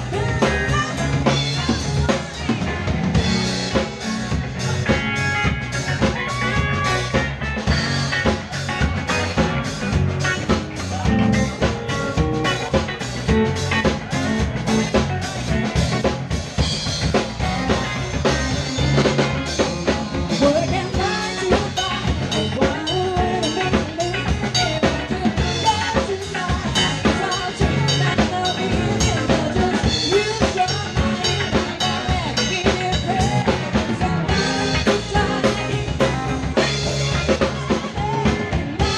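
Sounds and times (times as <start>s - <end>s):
drum kit beat: 0.0s - 38.9s
electric guitar: 0.0s - 38.9s.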